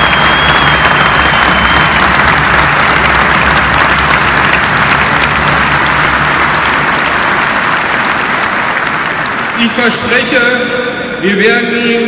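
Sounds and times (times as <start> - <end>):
stadium crowd applauding: 0.0 - 10.4.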